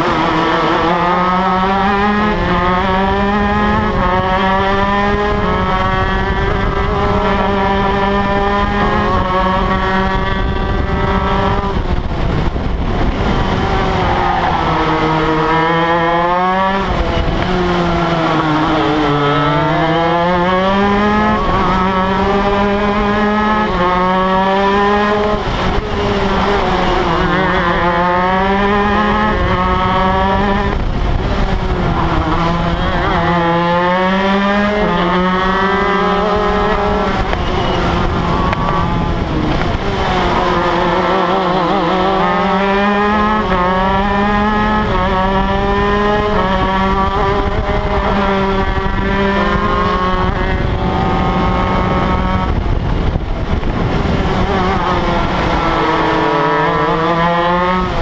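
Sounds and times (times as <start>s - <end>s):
kart engine at race pace: 0.0s - 58.0s.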